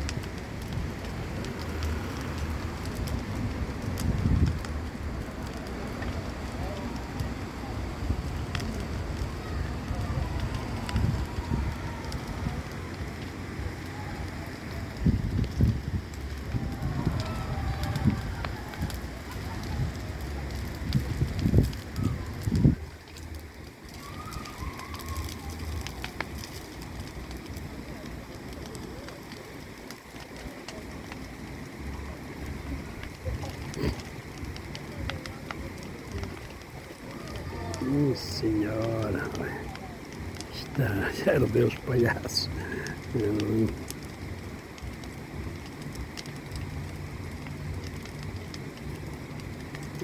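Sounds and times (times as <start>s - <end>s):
bonfire crackling and popping: 0.0s - 50.0s.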